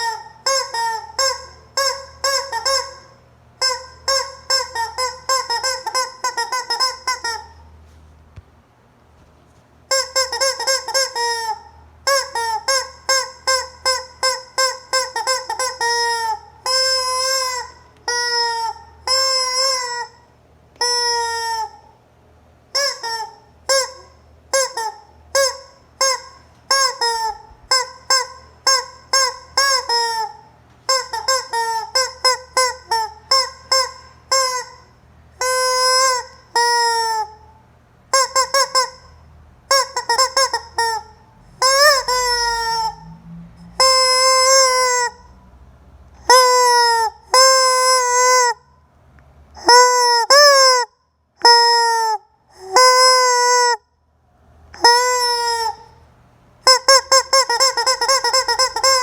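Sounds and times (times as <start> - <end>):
rubber chicken toy squawking: 0.0 - 7.7, 9.9 - 22.0, 22.7 - 37.5, 38.1 - 43.1, 43.7 - 45.3, 46.2 - 48.7, 49.6 - 53.9, 54.7 - 56.0, 56.6 - 59.0.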